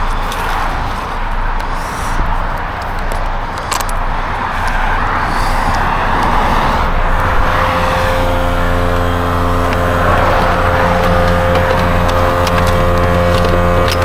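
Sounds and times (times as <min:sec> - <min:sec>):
steady engine hum: 0:00.0 - 0:14.0
vehicle road and engine noise: 0:00.0 - 0:14.0.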